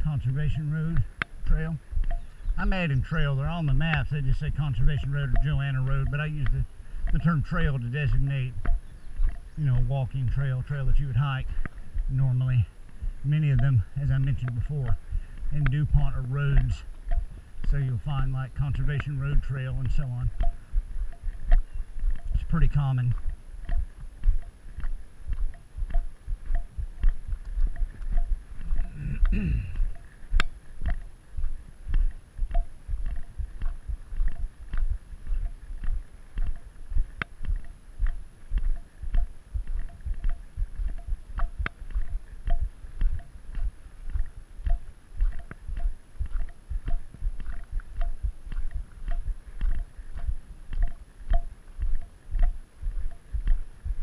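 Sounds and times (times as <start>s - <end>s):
footsteps crunching on gravel: 0.1s - 54.0s.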